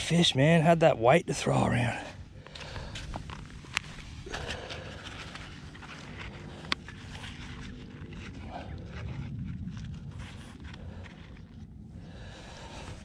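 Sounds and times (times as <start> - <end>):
rumbling handling noise: 0.0 - 13.0.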